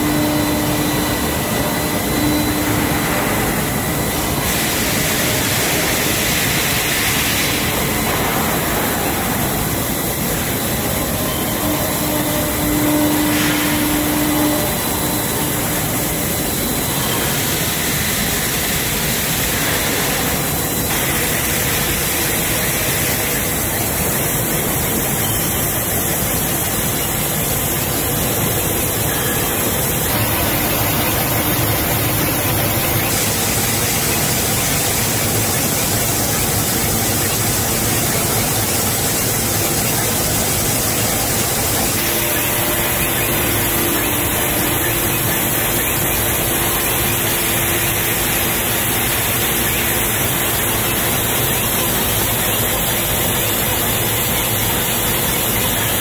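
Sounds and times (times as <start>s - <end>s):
faint high whine: 0.0s - 56.0s
pipe mill mechanical din: 0.0s - 56.0s.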